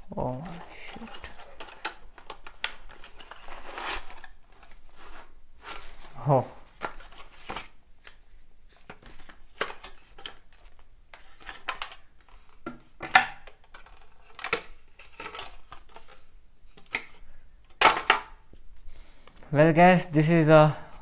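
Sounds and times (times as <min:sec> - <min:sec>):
cardboard and plastic rustling: 0:00.1 - 0:18.6.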